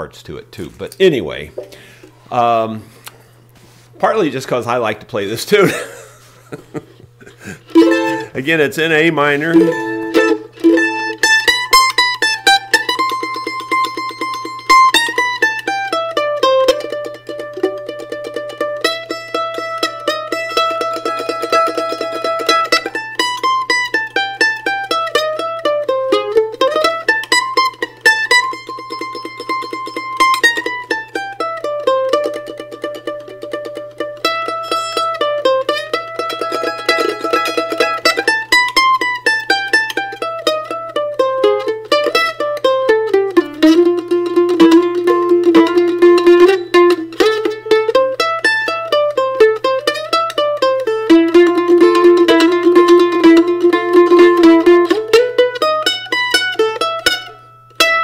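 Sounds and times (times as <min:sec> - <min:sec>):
mandolin tremolo melody: 0:07.6 - 0:58.0.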